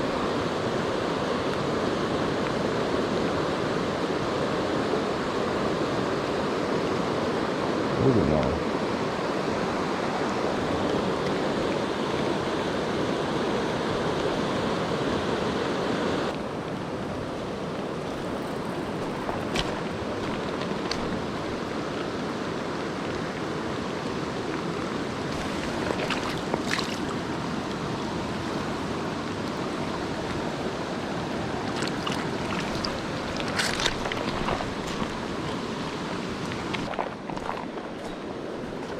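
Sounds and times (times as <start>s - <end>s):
mountain stream water rushing: 0.0s - 38.9s.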